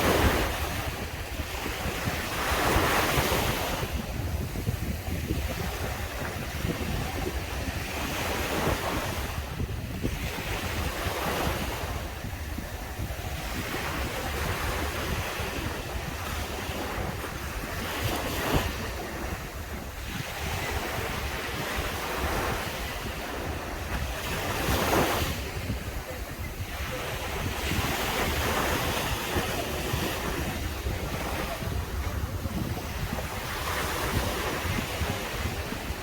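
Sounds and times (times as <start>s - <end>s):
sea waves breaking on beach: 0.0s - 36.0s
wind buffeting microphone: 0.0s - 36.0s.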